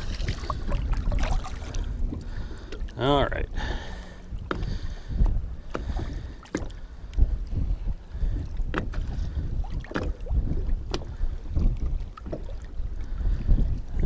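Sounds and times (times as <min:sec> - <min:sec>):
waves lapping against boat: 0:00.0 - 0:14.0
wind rumble on microphone: 0:00.0 - 0:14.0.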